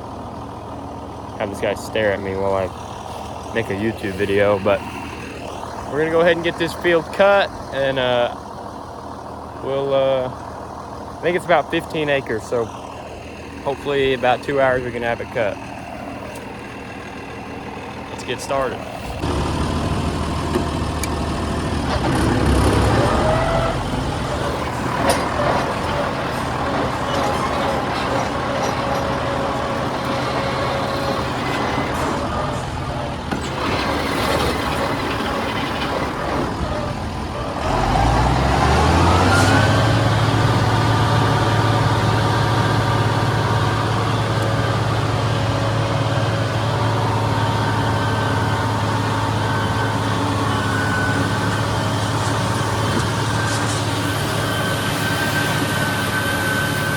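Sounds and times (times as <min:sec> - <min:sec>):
tractor engine revving: 0:00.0 - 0:56.9.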